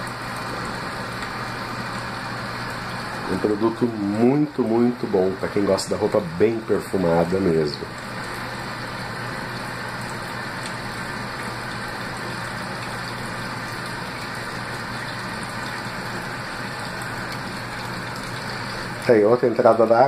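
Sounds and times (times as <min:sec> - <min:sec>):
water rushing into washer: 0:00.0 - 0:20.0.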